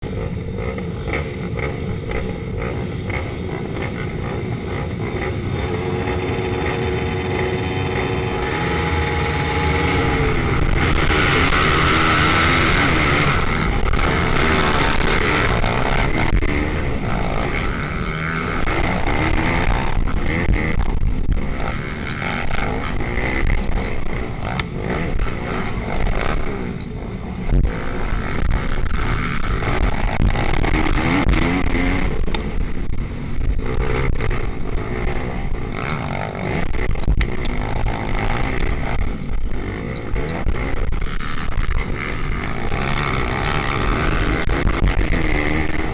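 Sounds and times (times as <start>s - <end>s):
pit bike engines revving: 0.0s - 45.9s.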